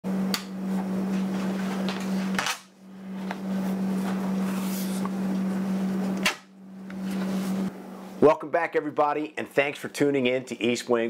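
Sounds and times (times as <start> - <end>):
low mechanical hum: 0.1 - 11.0.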